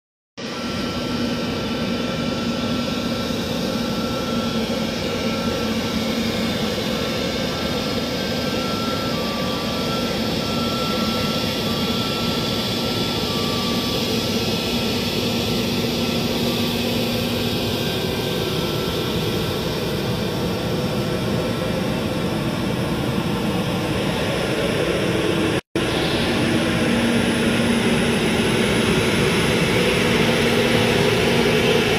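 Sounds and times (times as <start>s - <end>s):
jet engines rumbling with whine: 0.4s - 31.9s.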